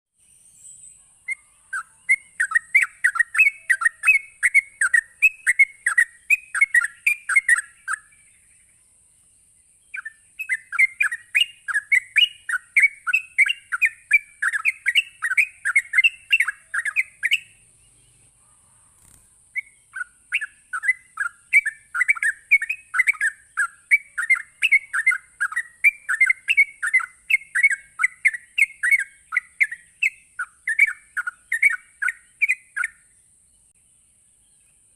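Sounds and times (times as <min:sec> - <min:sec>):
faint high hiss: 0:00.1 - 0:29.1
bird singing fast bright notes: 0:00.2 - 0:08.8, 0:09.4 - 0:34.9.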